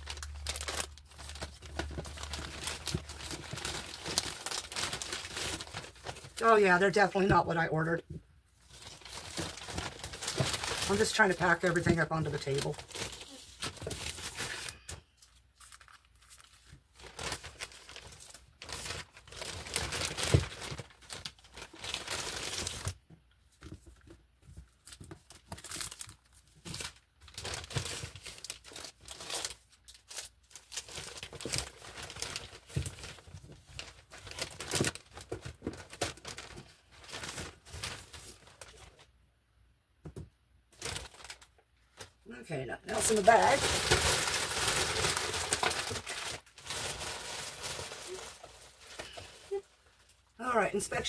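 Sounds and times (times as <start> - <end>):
plastic bags rustling and crinkling: 0.0 - 39.1, 40.7 - 51.0.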